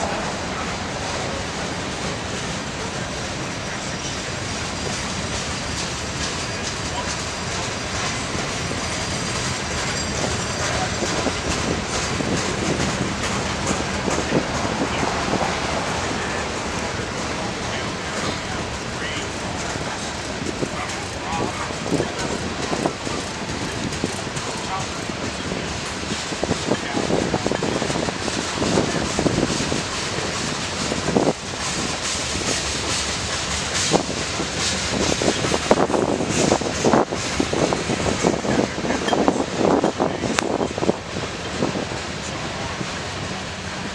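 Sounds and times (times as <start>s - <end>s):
rail clicks: 0.0s - 43.9s
train wheels rumbling on track: 0.0s - 43.9s.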